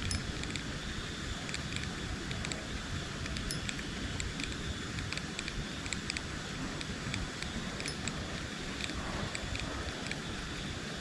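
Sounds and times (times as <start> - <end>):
wind rumbling on microphone: 0.0 - 11.0
faint high ticks: 1.4 - 10.8.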